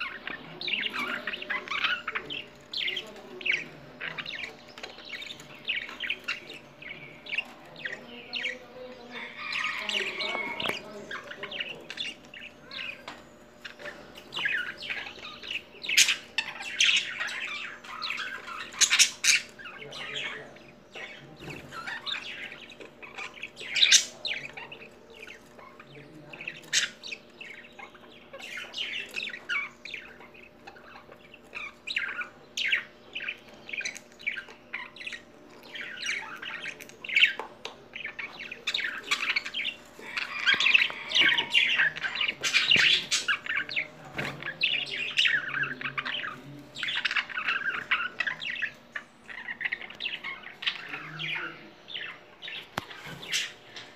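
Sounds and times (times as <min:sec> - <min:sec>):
budgerigars chirping and warbling: 0:00.0 - 0:53.9.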